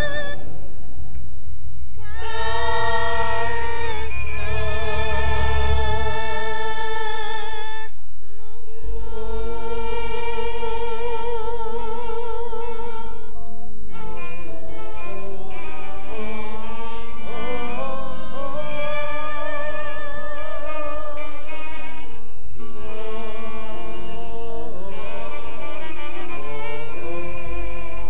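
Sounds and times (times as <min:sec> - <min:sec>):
wavering melody over low pulse: 0:00.0 - 0:28.0.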